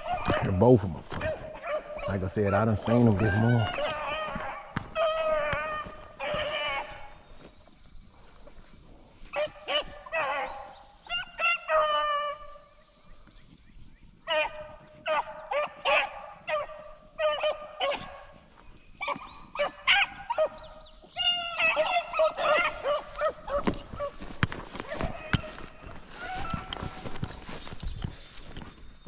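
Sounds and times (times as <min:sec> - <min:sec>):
hounds barking: 0:00.0 - 0:07.5, 0:09.2 - 0:12.6, 0:14.2 - 0:28.7.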